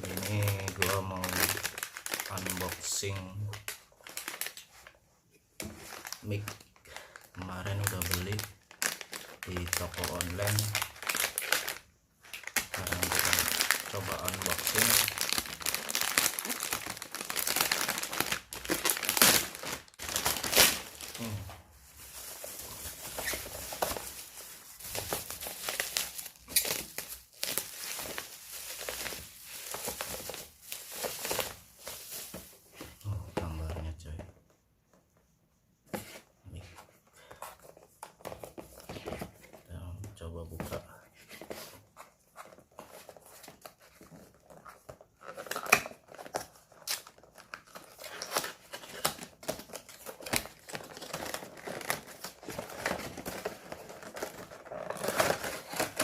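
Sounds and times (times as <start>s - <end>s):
packaging crinkling and rustling: 0.0s - 5.0s, 5.6s - 34.2s, 40.5s - 56.0s.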